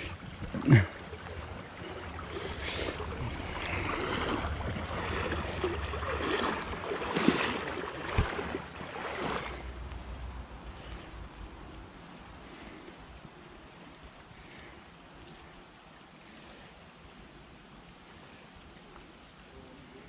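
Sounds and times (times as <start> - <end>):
creek water sloshing and splashing: 0.0 - 20.0.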